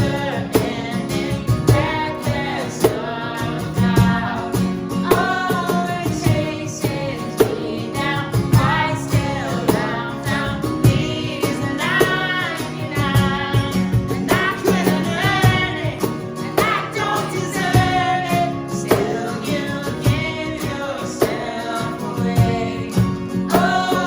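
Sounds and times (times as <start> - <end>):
person singing: 0.0 - 24.0
worship band playing: 0.0 - 24.0.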